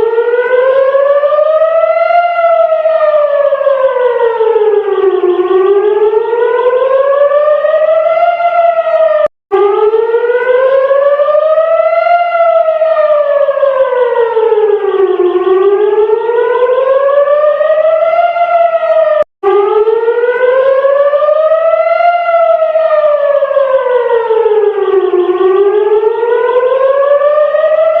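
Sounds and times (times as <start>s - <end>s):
civil defense siren wailing: 0.0s - 28.0s.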